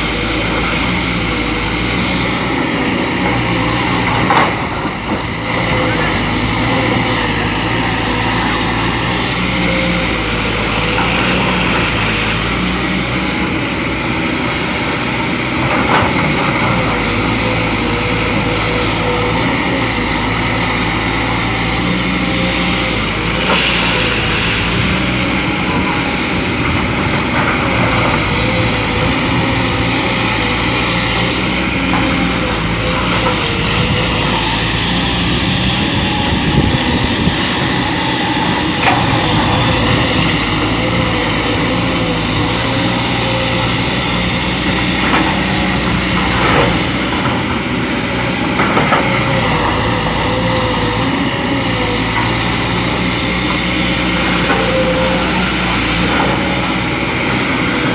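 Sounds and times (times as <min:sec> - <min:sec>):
excavator diesel engine: 0:00.0 - 0:57.9
hydraulic whine: 0:00.0 - 0:57.9.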